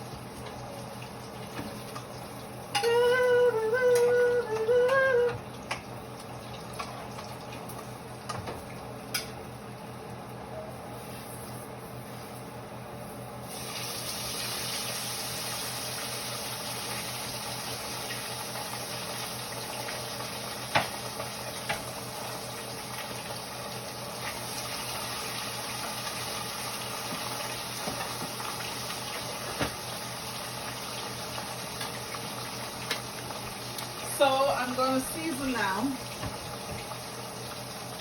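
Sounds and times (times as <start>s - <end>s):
water running from tap: 0.0s - 8.8s, 13.5s - 38.0s.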